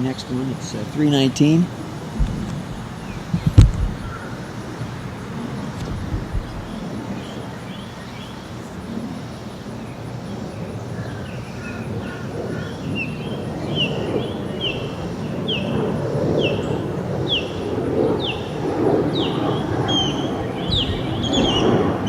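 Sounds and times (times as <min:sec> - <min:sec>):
jet airliner rumble: 0:00.0 - 0:22.0
bird chirping: 0:02.2 - 0:22.0.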